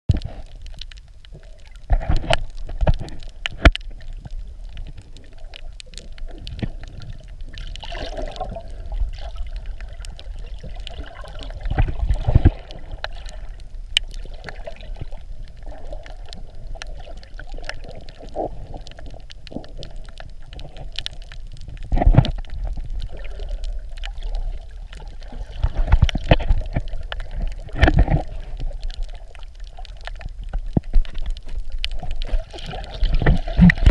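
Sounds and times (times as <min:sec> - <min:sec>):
muffled underwater rush: 0:00.1 - 0:33.9.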